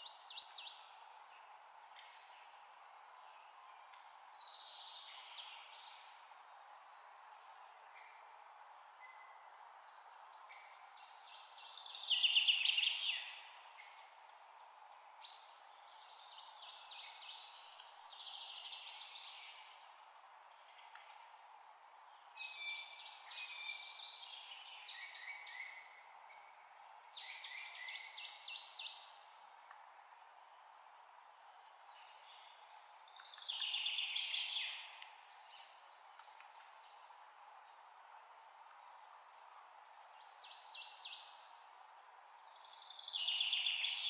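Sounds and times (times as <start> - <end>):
steady low hiss: 0.0 - 44.0.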